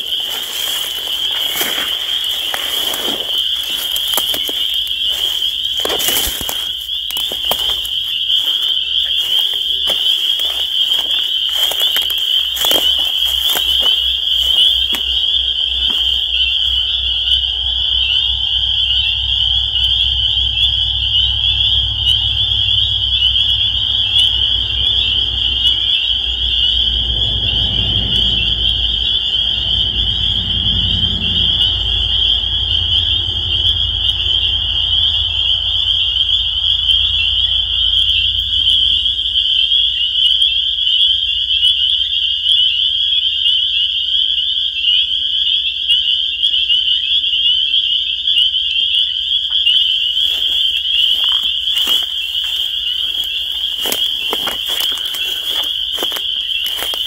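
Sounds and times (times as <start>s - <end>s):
spring peepers chorus: 0.0s - 57.0s.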